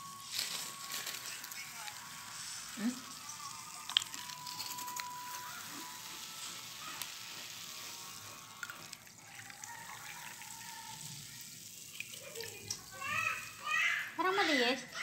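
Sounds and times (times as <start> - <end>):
drink pouring into cups: 0.0 - 14.2.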